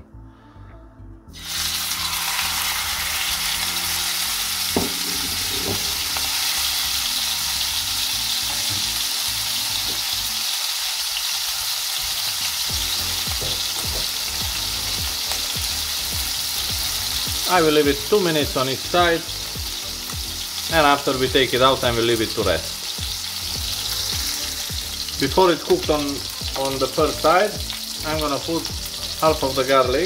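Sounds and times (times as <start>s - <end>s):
steak sizzling in a frying pan: 1.4s - 30.0s.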